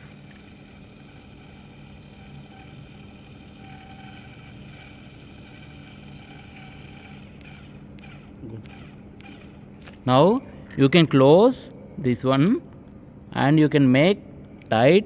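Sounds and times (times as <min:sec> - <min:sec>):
low electric motor hum: 0:00.0 - 0:15.0.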